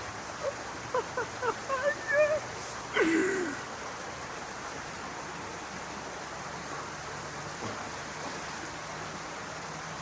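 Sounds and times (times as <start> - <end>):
rushing outdoor noise: 0.0 - 10.0.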